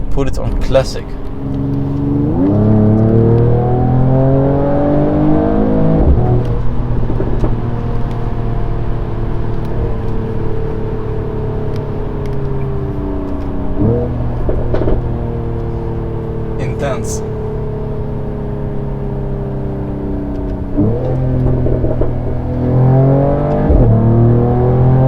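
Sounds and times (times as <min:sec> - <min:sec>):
car engine accelerating hard: 0:00.4 - 0:25.0.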